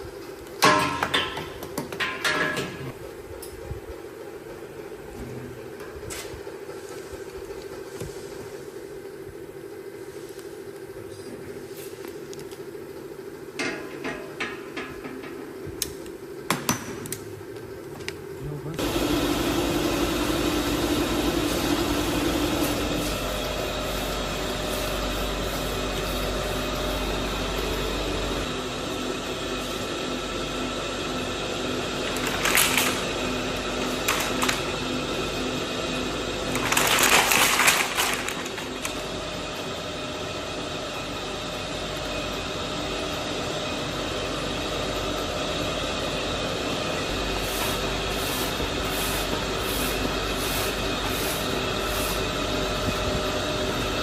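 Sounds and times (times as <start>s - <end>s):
machinery hum and whine: 0.0s - 54.0s.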